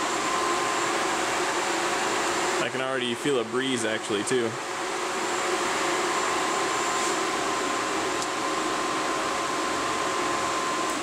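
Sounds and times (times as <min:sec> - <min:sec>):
radiator fans running: 0:00.0 - 0:11.0.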